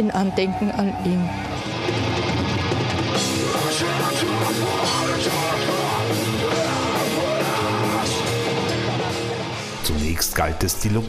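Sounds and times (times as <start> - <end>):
bass guitar: 0.0 - 11.0
distorted electric guitars: 0.0 - 11.0.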